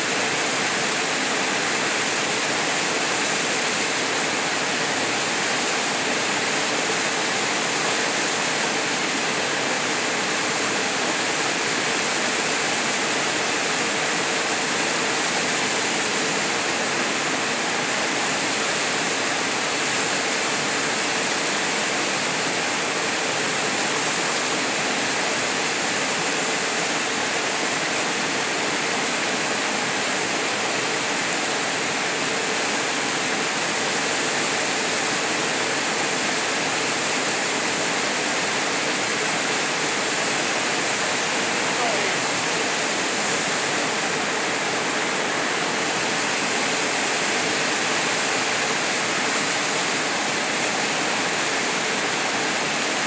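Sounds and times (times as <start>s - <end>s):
waterfall pouring into pool: 0.0s - 53.0s.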